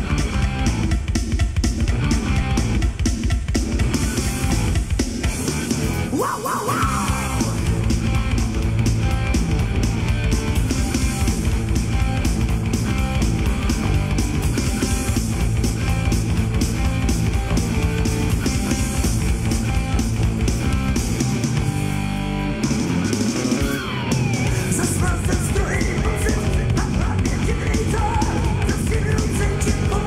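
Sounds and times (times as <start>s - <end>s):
loud rock music: 0.0s - 30.0s.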